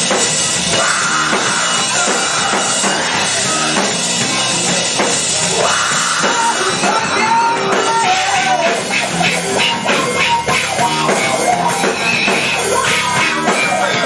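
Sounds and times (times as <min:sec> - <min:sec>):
drum kit: 0:00.0 - 0:14.0
electric guitar: 0:00.0 - 0:14.0
person singing: 0:00.8 - 0:05.0, 0:05.6 - 0:14.0.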